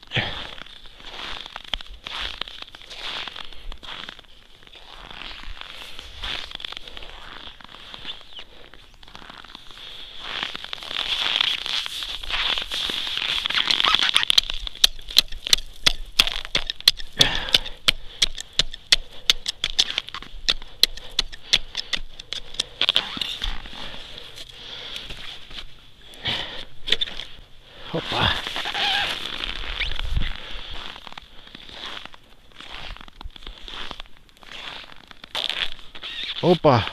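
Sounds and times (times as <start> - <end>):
crunchy clicks on thin ice: 0.5 - 25.8, 30.8 - 36.4.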